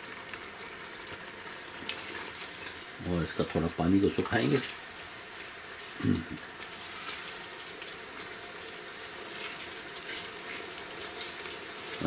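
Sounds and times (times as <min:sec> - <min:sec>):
sauce bubbling in a pot: 0:00.0 - 0:12.0.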